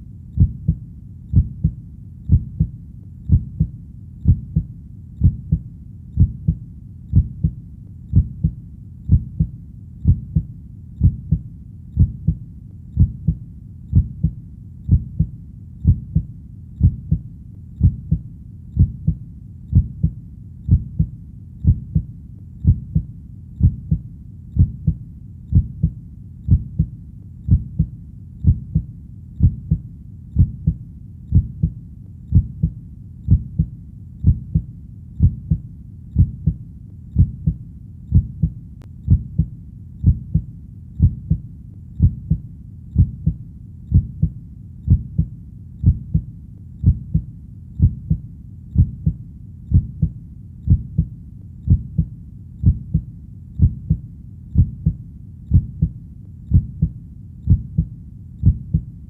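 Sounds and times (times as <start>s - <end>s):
faint low rumble: 0.0s - 59.0s
heartbeat: 0.0s - 59.0s.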